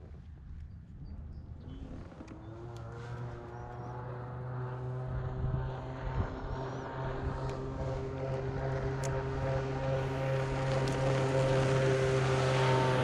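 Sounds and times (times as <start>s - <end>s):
distant engine droning: 0.8s - 13.0s.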